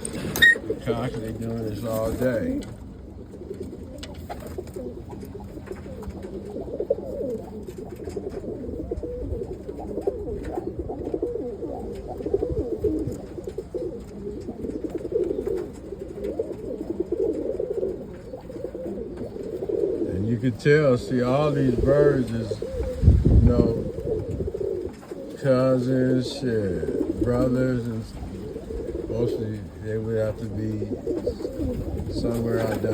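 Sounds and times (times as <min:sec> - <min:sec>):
pigeons cooing: 0:00.0 - 0:32.9.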